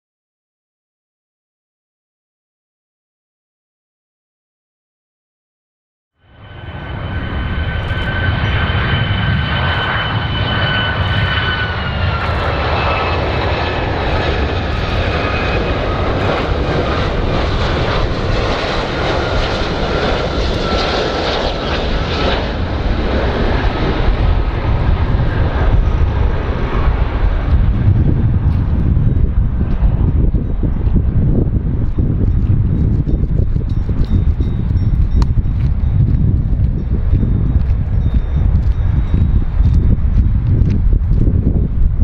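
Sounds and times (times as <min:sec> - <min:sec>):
airplane engines roaring: 0:06.2 - 0:42.0.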